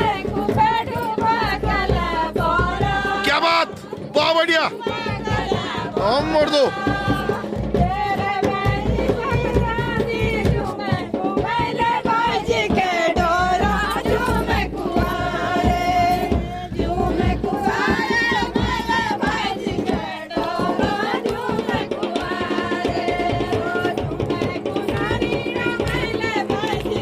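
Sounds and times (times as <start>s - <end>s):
drums beating: 0.0s - 27.0s
folk singing voices: 0.0s - 27.0s.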